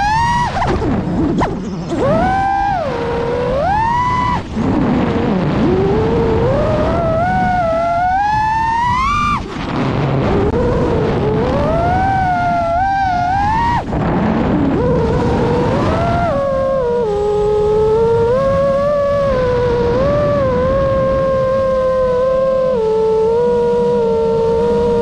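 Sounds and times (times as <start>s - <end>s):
drone motors whining: 0.0s - 25.0s
steady rushing noise: 0.0s - 25.0s.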